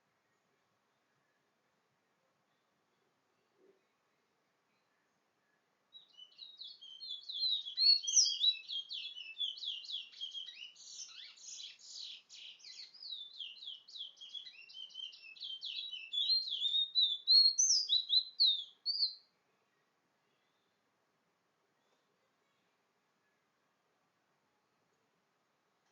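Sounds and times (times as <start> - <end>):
songbird singing chirps and trills: 0.0 - 25.9.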